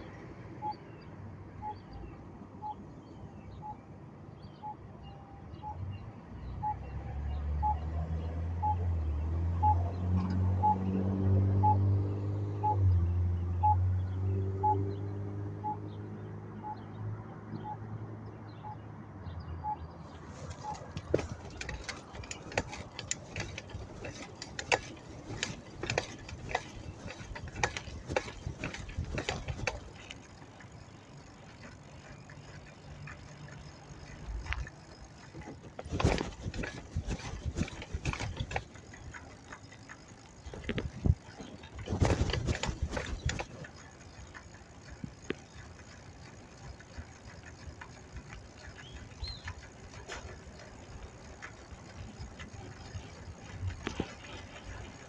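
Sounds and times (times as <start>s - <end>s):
bicycle rattling and clicking: 6.6s - 55.0s.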